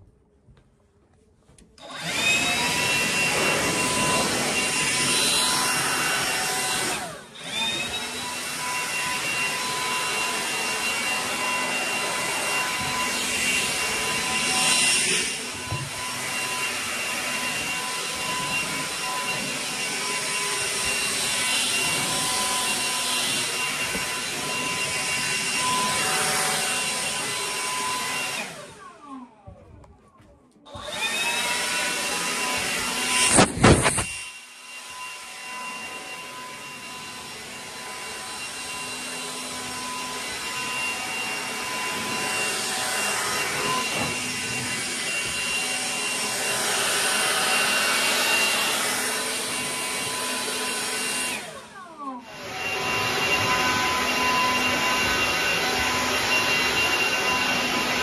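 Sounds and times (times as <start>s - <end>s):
leaf blower running: 1.8s - 29.7s, 30.7s - 58.0s.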